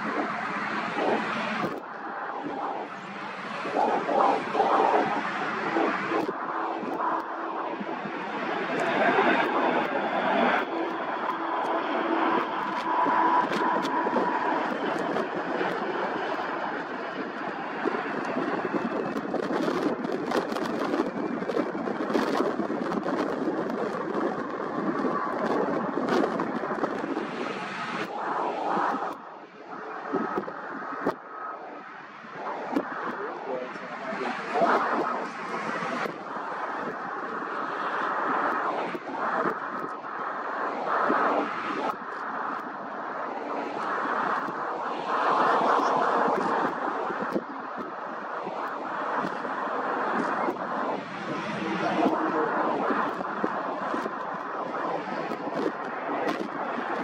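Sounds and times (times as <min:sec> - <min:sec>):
jet engines rushing: 0:00.0 - 0:57.0.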